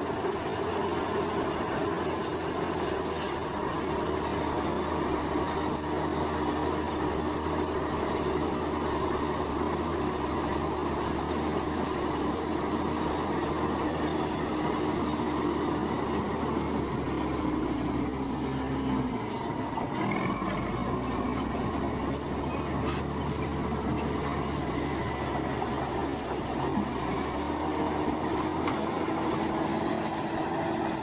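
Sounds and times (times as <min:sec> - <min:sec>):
diesel machinery engine drone: 0:00.0 - 0:31.0.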